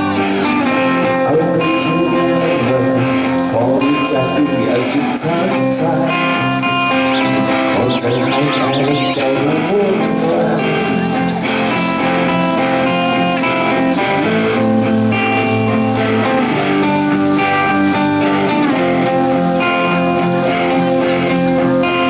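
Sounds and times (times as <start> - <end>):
electric guitar through pa system: 0.0 - 22.0.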